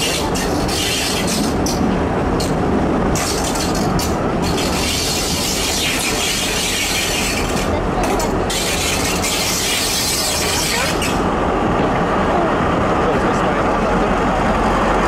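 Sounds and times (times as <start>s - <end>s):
diesel railcar running: 0.0s - 15.0s.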